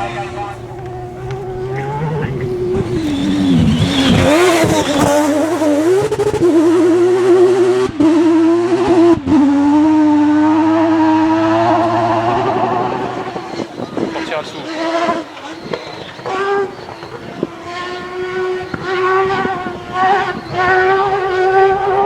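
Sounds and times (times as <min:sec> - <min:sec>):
rotary engine at high revs: 0:00.0 - 0:22.0.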